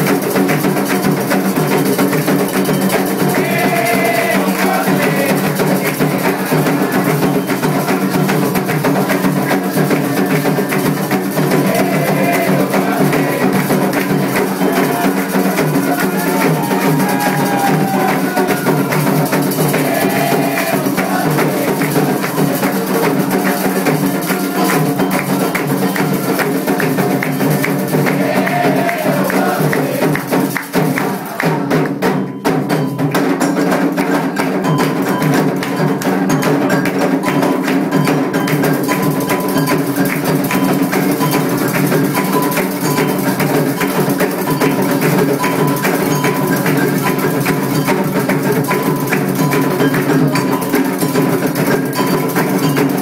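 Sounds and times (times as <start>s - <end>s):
hand drums: 0.0s - 53.0s
struck bell pattern: 2.3s - 31.3s, 34.6s - 53.0s.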